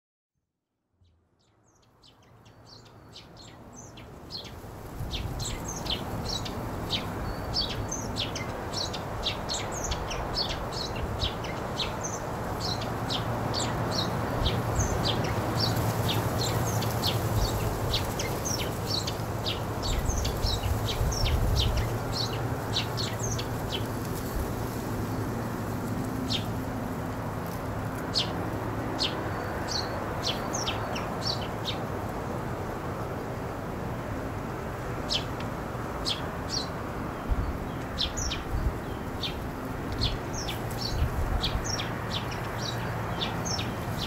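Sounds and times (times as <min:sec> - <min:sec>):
outdoor background hiss: 0:00.8 - 0:44.0
small birds chirping: 0:01.0 - 0:26.6, 0:27.4 - 0:32.1, 0:35.0 - 0:44.0.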